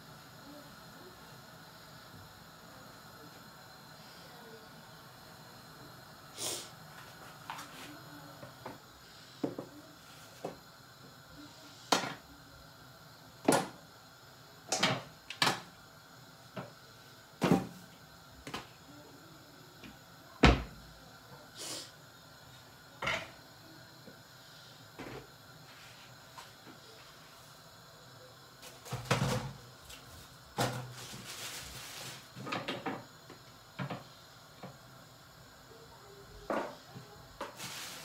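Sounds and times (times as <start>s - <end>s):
low steady hiss: 0.0s - 38.0s.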